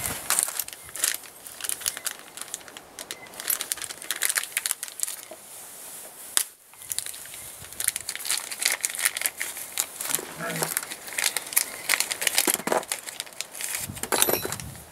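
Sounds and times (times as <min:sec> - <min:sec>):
packet wrapping crinkling: 0:00.0 - 0:05.4, 0:06.4 - 0:14.7.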